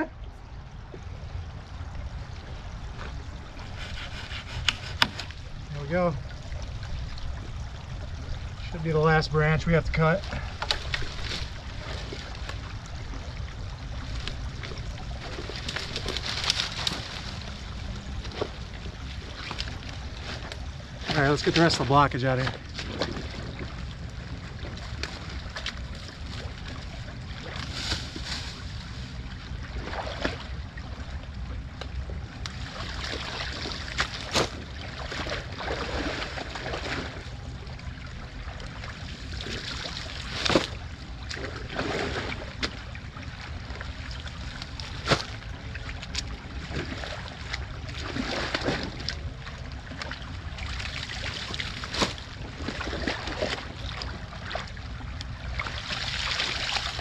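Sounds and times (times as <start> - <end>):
creek water running: 0.0 - 57.0
rubber boots sloshing in stream: 9.6 - 57.0.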